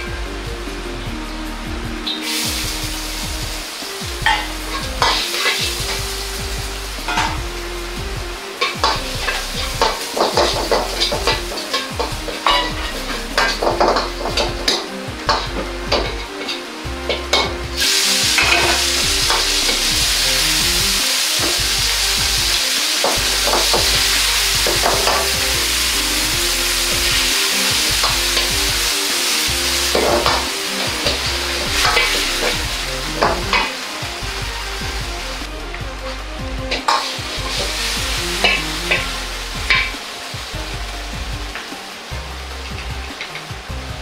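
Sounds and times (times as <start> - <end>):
food sizzling in wok: 0.0 - 44.0
metal ladle scraping wok: 2.1 - 40.2.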